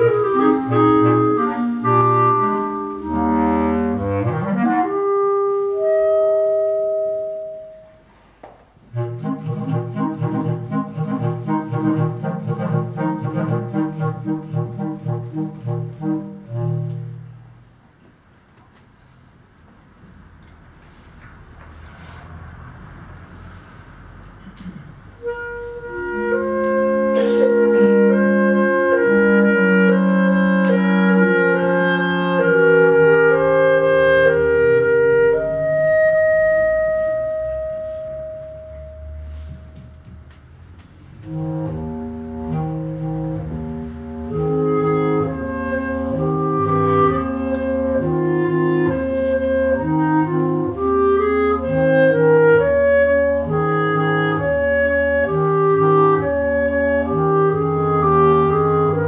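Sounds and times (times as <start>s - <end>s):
clarinet quintet playing: 0.0s - 8.1s, 8.8s - 17.6s, 25.2s - 40.1s, 41.1s - 59.0s.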